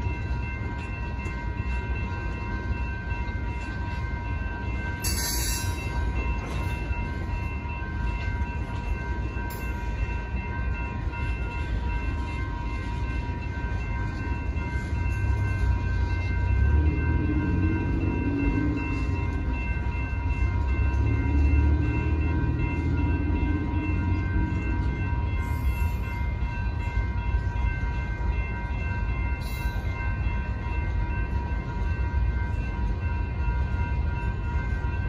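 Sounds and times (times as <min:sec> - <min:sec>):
crossing bells ringing: 0:00.0 - 0:35.0
train wheels rumbling on rail: 0:00.0 - 0:35.0.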